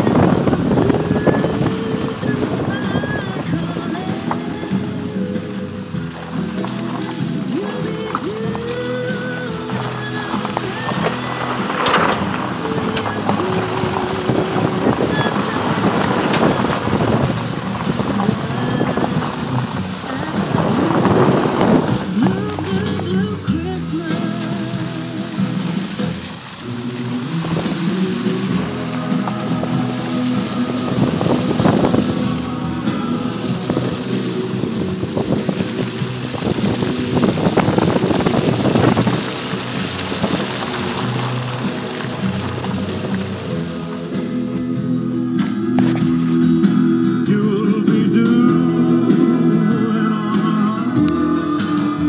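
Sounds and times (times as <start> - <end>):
background music: 0.0 - 52.0
wind and tyre noise: 0.0 - 52.0.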